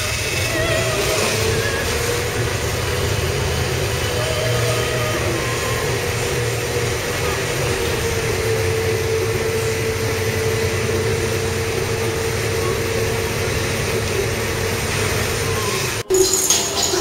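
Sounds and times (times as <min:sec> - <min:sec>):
constant hum: 0:00.0 - 0:17.0
lift machinery drone: 0:00.0 - 0:17.0.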